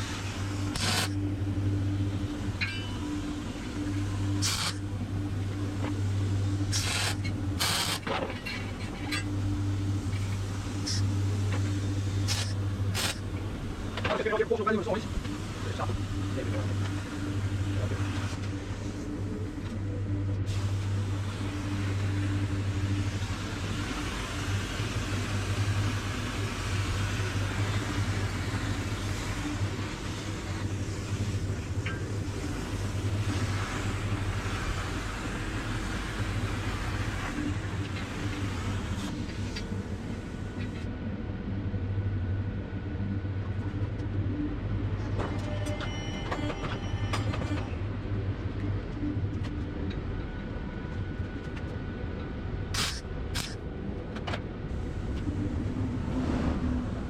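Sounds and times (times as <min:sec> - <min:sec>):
faint steady whine: 0:00.0 - 0:57.0
low mechanical hum: 0:00.0 - 0:57.0
machine rumbling: 0:00.0 - 0:57.0.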